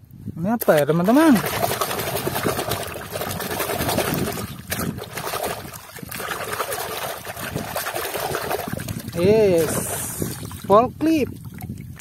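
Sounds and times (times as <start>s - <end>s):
water sloshing in a basin: 0.6s - 12.0s.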